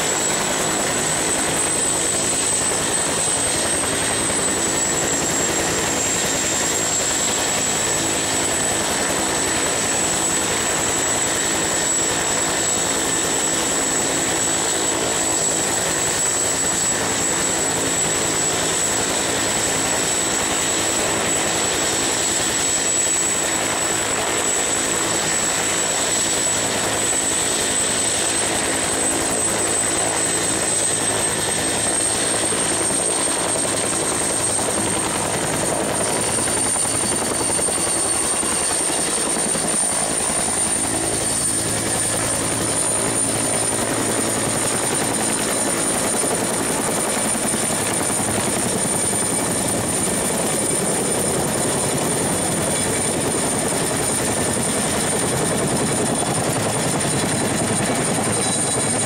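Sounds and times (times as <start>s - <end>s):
helicopter rotor and turbine drone: 0.0s - 59.0s.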